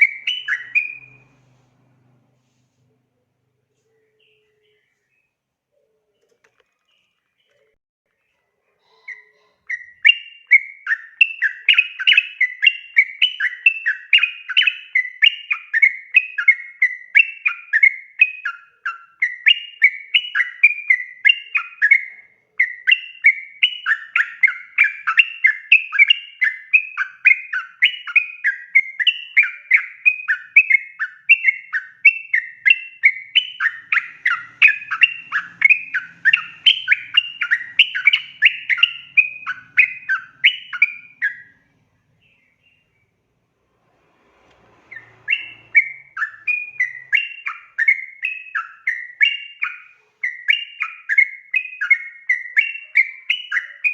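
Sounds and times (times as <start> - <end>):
bird chattering song: 0.0 - 2.2, 6.1 - 43.2, 44.7 - 53.9.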